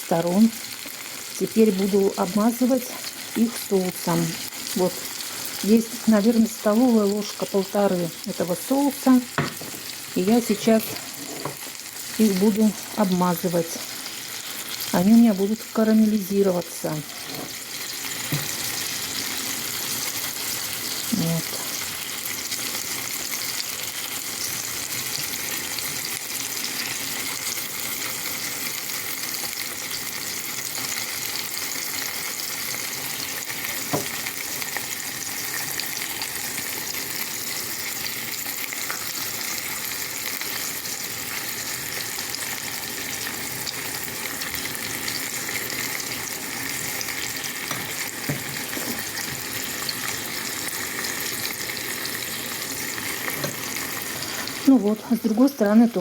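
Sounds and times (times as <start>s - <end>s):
sausages sizzling in a frying pan: 0.0s - 56.0s.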